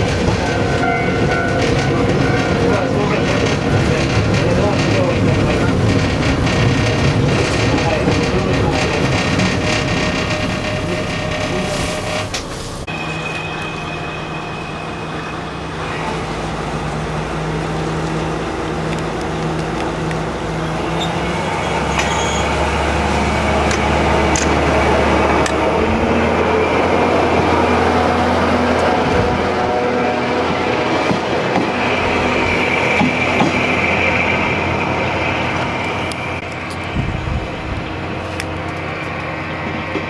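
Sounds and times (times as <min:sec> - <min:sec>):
diesel railcar engine running: 0:00.0 - 0:40.0.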